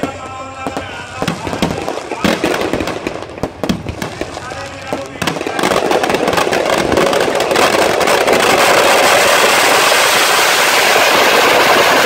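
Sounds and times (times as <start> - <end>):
fireworks crackling and hissing: 0.0 - 12.0.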